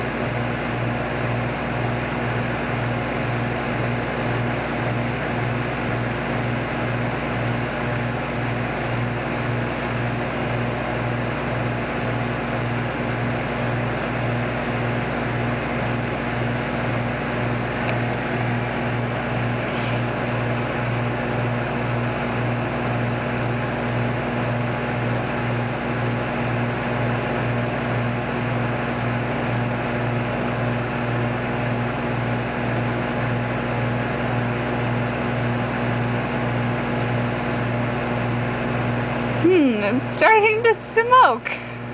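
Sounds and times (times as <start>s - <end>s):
microwave oven pulsing hum: 0.0s - 41.9s.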